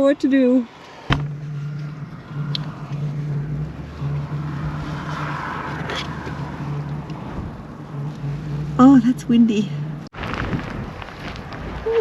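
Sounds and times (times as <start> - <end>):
vehicle engine idling: 0.0 - 10.1.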